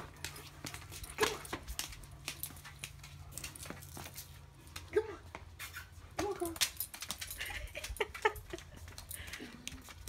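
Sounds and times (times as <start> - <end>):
dog paws tapping on concrete: 0.0 - 10.0.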